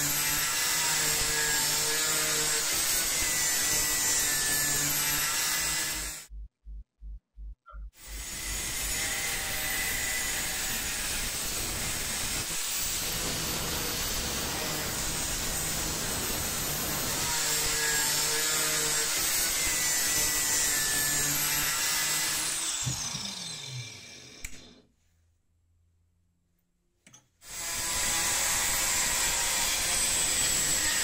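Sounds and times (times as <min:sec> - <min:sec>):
angle grinder cutting steel: 0:00.0 - 0:06.3, 0:08.0 - 0:24.8, 0:27.4 - 0:31.0.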